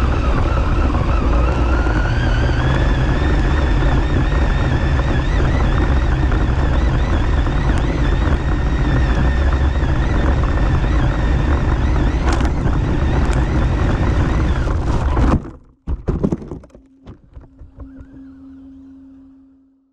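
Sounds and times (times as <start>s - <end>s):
electric motor whining: 0.0s - 15.7s, 17.0s - 19.9s.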